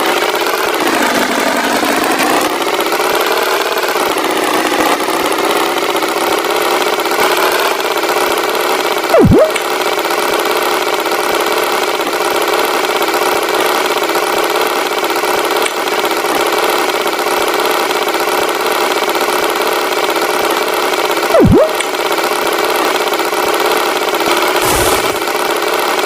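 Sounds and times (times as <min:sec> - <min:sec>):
cartoon tractor engine: 0:00.0 - 0:26.0.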